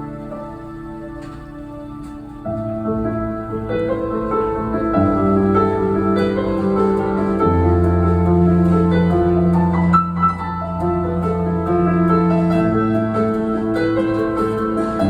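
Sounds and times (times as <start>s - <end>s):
held keyboard chords: 0.0s - 15.0s.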